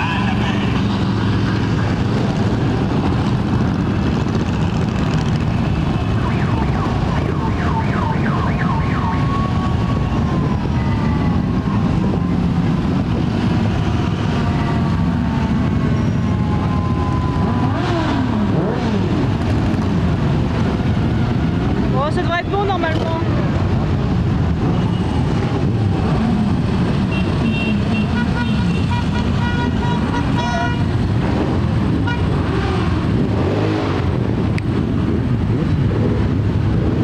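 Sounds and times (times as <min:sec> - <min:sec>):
motorcycle engines rumbling past: 0:00.0 - 0:37.0.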